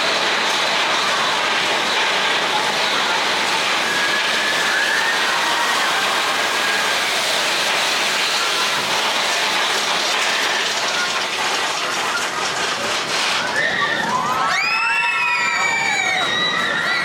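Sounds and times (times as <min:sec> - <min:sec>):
roller coaster train rumbling: 0:00.0 - 0:17.0.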